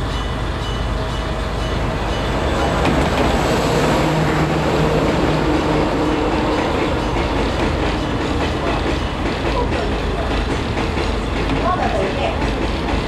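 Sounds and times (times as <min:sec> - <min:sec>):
diesel locomotive engine droning: 0:00.0 - 0:13.0
freight wagons rumbling past: 0:00.0 - 0:13.0.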